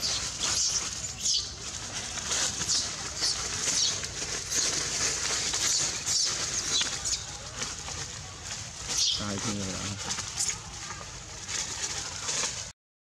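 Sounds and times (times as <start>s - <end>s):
dry leaves rustling: 0.0s - 12.7s.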